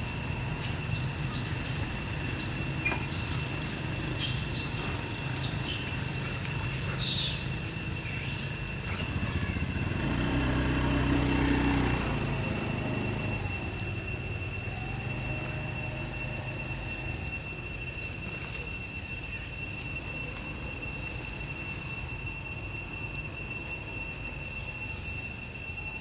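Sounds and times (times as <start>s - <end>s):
constant high-pitched tones: 0.0s - 26.0s.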